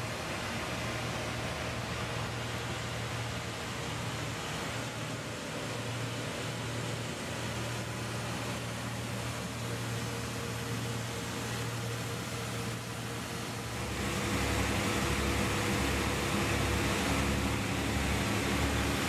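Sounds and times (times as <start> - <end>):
pump droning: 0.0 - 19.0.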